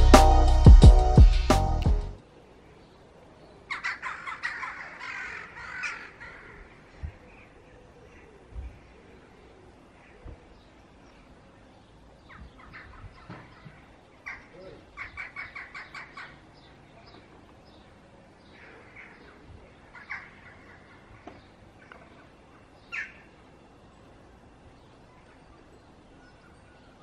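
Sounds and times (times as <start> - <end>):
birds calling: 2.6 - 27.0.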